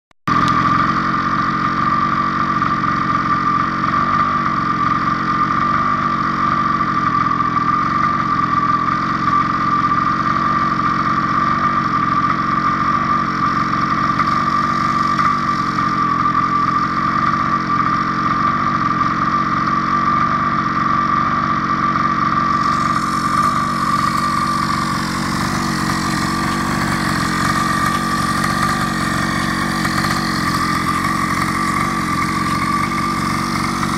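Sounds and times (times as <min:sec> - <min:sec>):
small petrol engine idling: 0:00.3 - 0:33.9.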